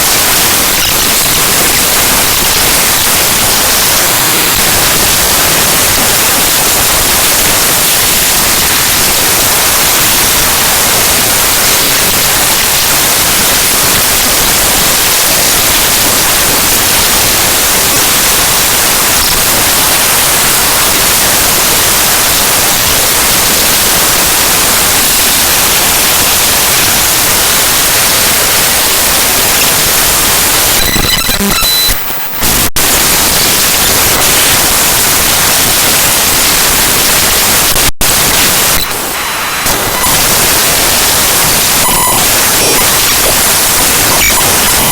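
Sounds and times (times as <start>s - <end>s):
harsh digital static: 0.0s - 44.9s.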